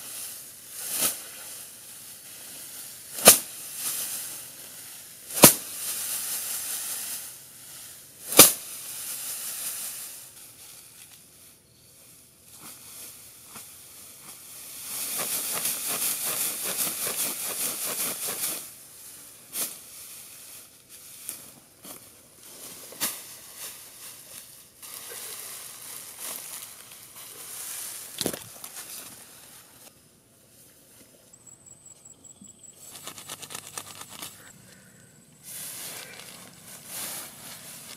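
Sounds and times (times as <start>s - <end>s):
grass rustling and swishing: 0.0s - 31.4s, 32.8s - 34.6s, 35.2s - 37.9s.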